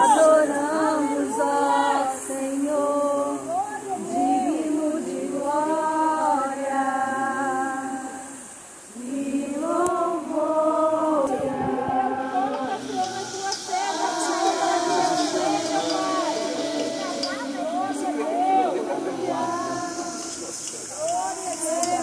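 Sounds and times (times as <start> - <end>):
group singing a hymn: 0.0 - 22.0.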